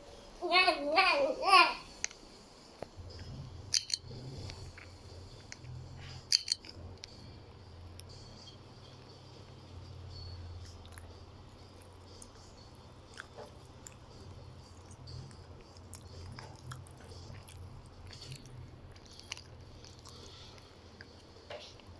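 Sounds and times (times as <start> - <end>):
ceiling fan motor hum: 0.0 - 21.9.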